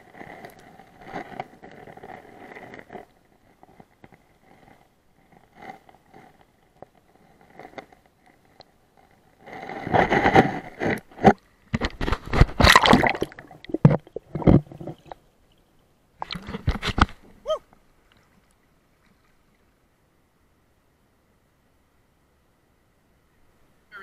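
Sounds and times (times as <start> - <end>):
water sloshing and gurgling: 0.0 - 19.8.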